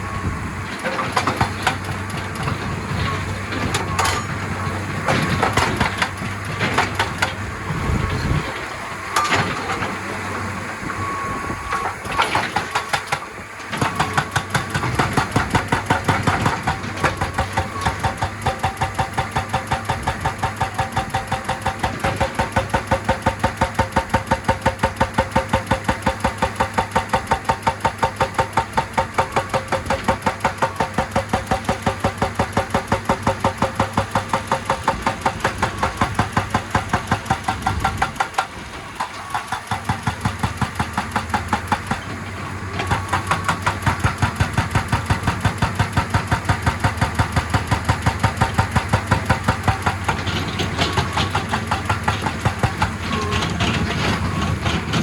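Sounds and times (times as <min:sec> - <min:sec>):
excavator engine running: 0:00.0 - 0:55.0
hydraulic breaker hammering rock: 0:00.7 - 0:10.2, 0:11.6 - 0:55.0.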